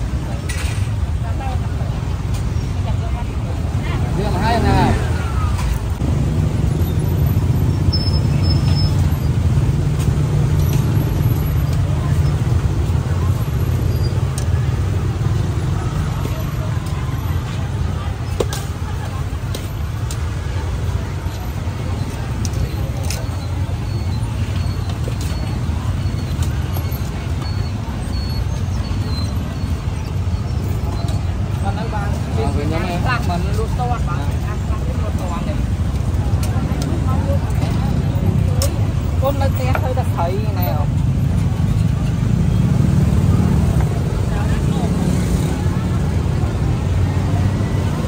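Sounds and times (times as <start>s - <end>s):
road traffic engine rumble: 0.0s - 48.0s.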